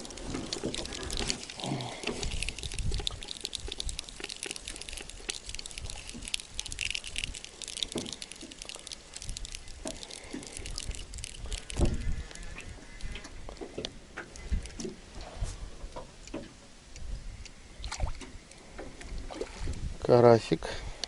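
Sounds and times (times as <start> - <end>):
water dripping and splashing: 0.0 - 16.6, 17.8 - 19.9
small irregular clicks and crackles: 0.0 - 21.0.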